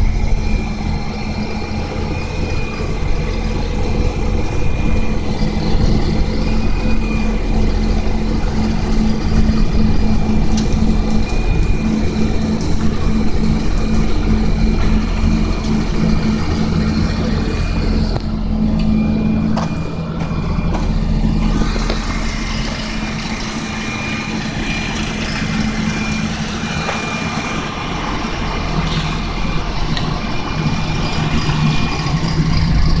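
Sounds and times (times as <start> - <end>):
diesel engine running: 0.0 - 33.0
machinery din: 0.0 - 33.0.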